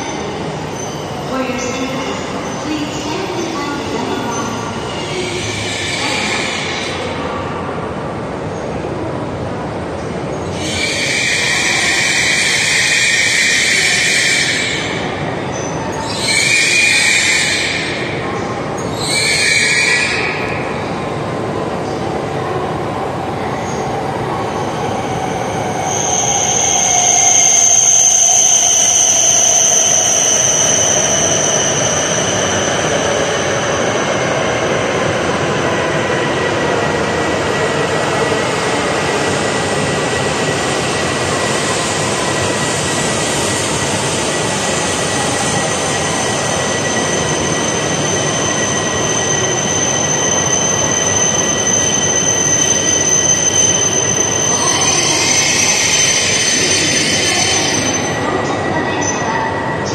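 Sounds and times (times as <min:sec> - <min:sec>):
high-pitched train squeal: 0:00.0 - 0:07.2, 0:10.3 - 0:21.0, 0:23.4 - 0:59.9
train rushing into station: 0:00.0 - 0:59.9.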